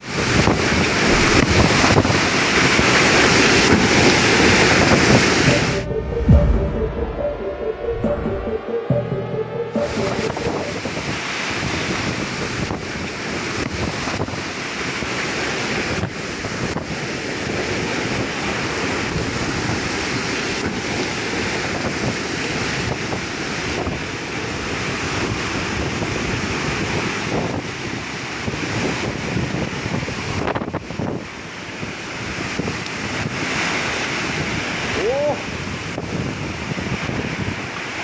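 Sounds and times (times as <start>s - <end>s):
wind buffeting microphone: 0.0s - 6.9s, 10.4s - 37.8s.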